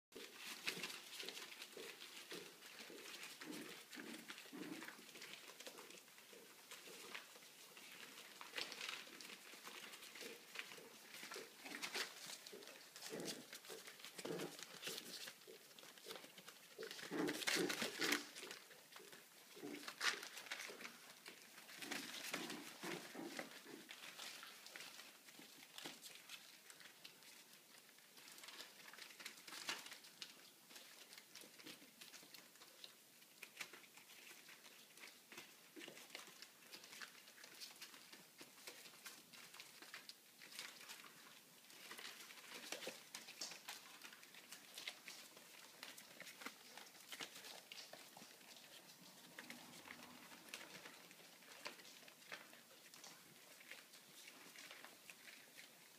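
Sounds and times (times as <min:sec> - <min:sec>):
small paws pattering: 0:00.1 - 0:55.9.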